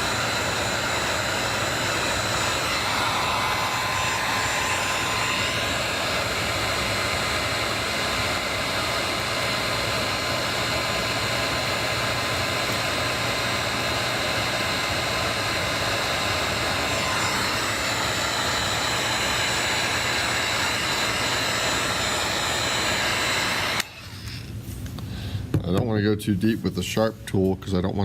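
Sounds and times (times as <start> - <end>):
hot-air blower running: 0.0 - 25.9.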